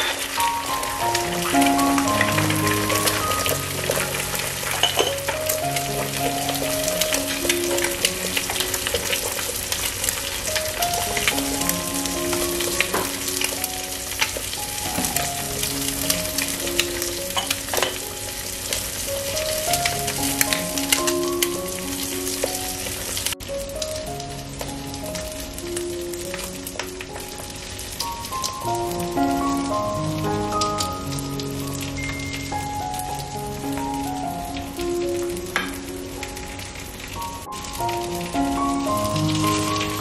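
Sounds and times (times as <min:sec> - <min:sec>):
food sizzling in a frying pan: 0:00.0 - 0:40.0
soft background music: 0:00.0 - 0:40.0.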